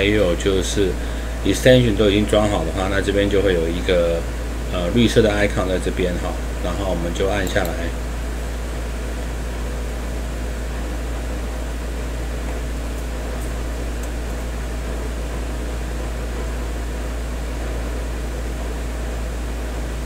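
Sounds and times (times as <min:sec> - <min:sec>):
constant low hum: 0:00.0 - 0:20.0
microphone hiss: 0:00.0 - 0:20.0.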